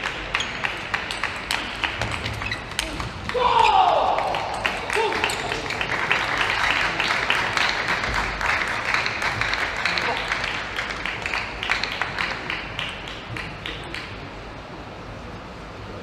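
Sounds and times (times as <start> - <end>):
crowd applauding: 0.0 - 14.1.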